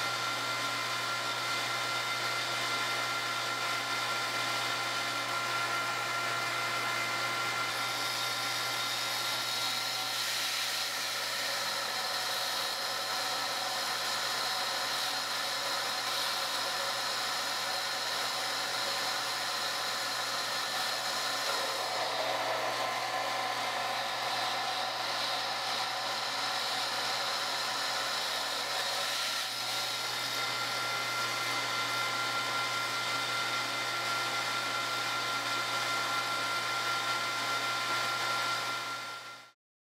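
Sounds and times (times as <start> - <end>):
water pump whining: 0.1 - 36.6.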